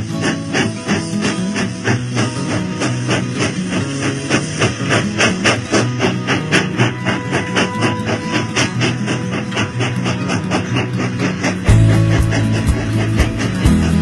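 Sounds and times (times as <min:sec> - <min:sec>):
background music with steady beat: 0:00.0 - 0:14.0.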